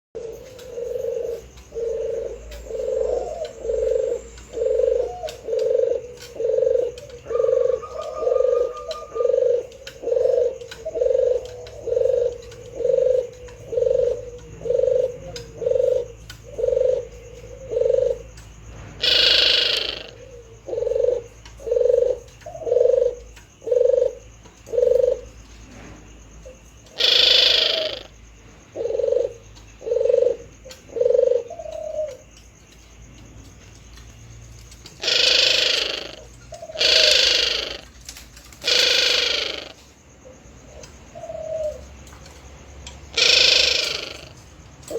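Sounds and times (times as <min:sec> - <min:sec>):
dove cooing: 0:00.2 - 0:44.9.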